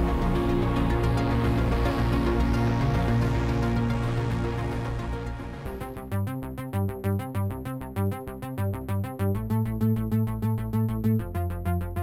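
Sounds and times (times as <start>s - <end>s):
bass line: 0.0s - 12.0s
electronic synthesizer music: 0.0s - 12.0s.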